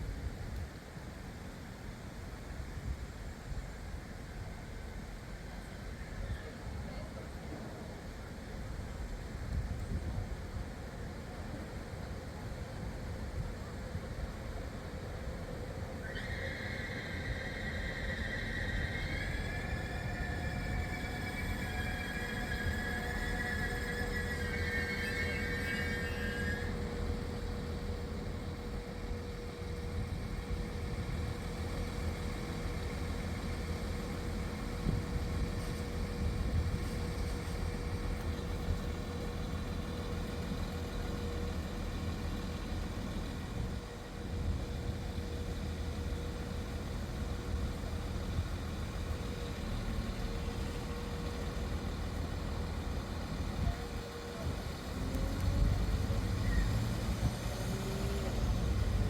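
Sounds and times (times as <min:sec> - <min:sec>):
diesel train engine rumbling: 0:00.0 - 0:59.0.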